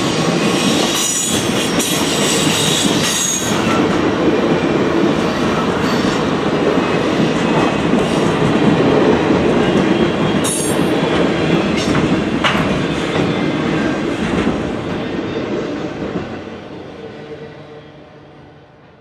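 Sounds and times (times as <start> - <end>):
train wheels rumbling and clacking: 0.0 - 17.5.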